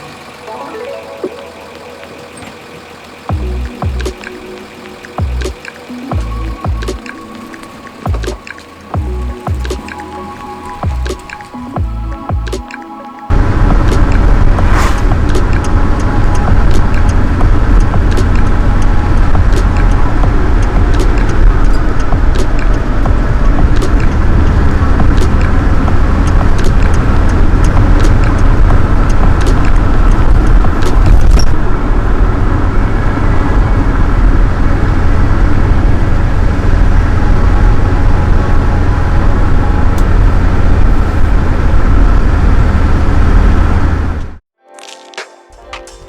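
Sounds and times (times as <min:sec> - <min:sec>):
car engine droning: 0:00.0 - 0:12.7, 0:13.3 - 0:44.4.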